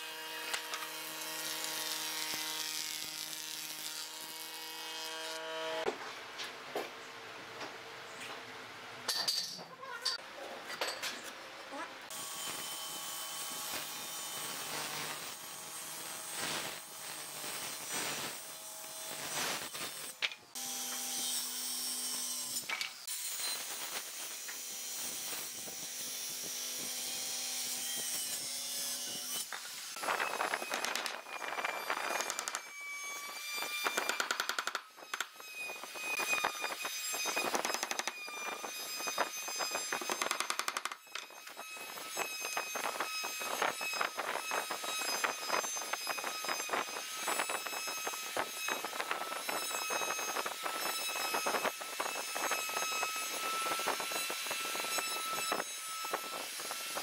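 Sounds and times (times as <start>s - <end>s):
circular saw cutting wood: 0.0s - 5.9s, 12.1s - 57.0s.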